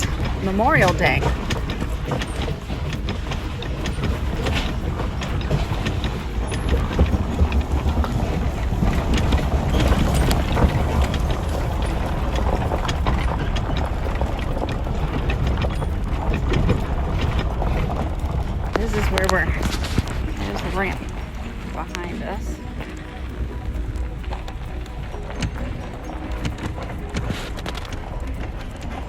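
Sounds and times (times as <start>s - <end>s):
truck engine and road noise: 0.0s - 29.0s
wind on microphone: 0.0s - 29.0s.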